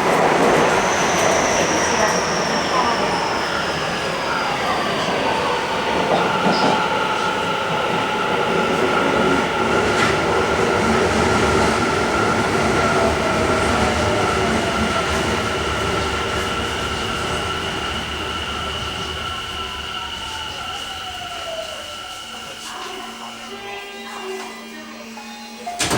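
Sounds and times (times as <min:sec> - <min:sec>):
traction inverter whine: 0:00.0 - 0:23.7
wheel and rail rumble: 0:00.0 - 0:23.8.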